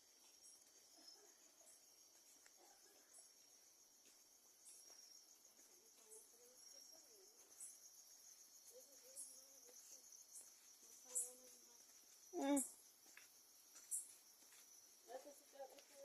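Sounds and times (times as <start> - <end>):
crickets trilling: 0.0 - 16.0
higher insect chirp: 0.0 - 16.0.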